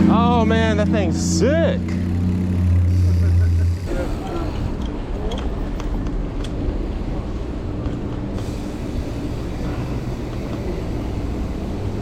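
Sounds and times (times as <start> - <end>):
road noise from bicycle: 0.0 - 12.0.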